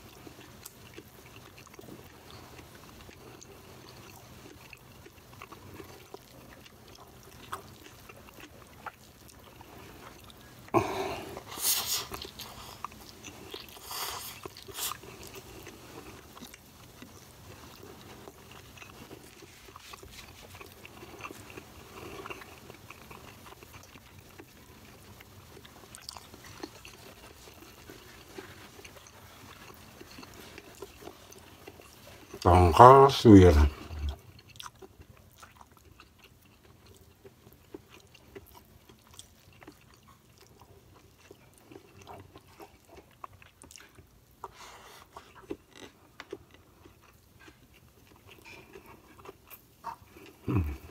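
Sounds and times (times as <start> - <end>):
person chewing and biting food: 0.0 - 50.9.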